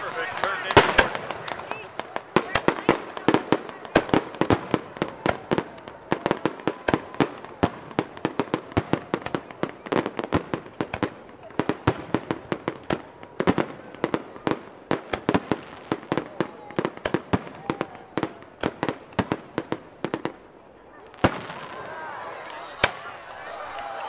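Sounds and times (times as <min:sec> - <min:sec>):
fireworks bursting with sharp bangs: 0:00.0 - 0:23.9.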